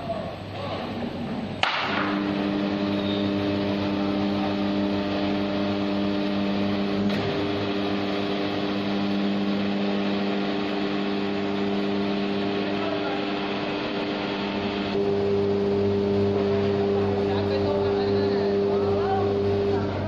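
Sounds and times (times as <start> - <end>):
electric motor humming: 1.8 - 20.0.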